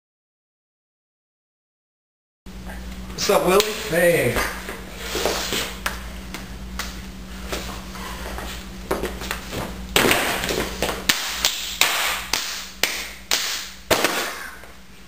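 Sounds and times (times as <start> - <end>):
low electrical hum: 2.5 - 15.0.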